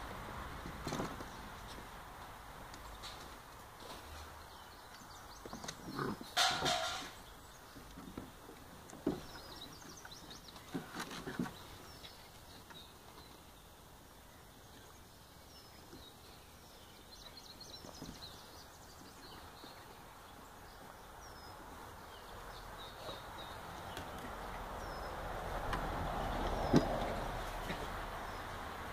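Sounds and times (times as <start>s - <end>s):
small birds chirping: 0.5s - 28.9s.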